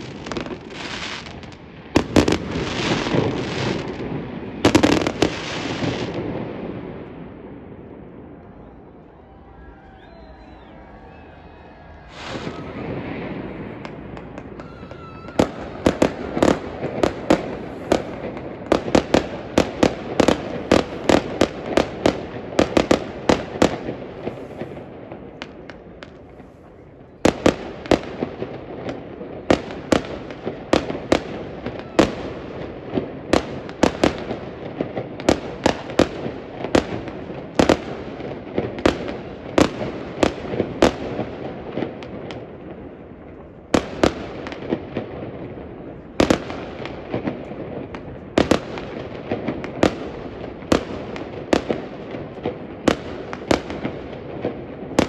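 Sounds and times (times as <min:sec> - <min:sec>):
fireworks bangs: 0:00.0 - 0:55.0
fireworks crackle: 0:00.0 - 0:55.0.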